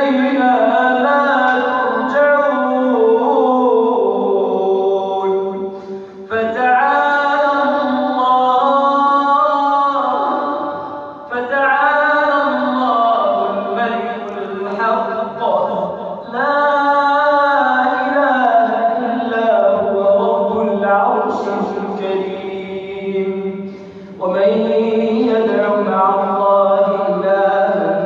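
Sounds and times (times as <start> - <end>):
man chanting melodically: 0.0 - 28.0.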